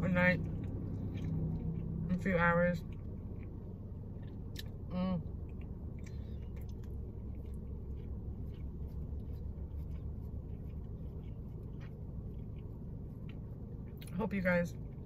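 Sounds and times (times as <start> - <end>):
steady low rumble: 0.0 - 15.0
mouth clicks and chewing: 0.3 - 15.0.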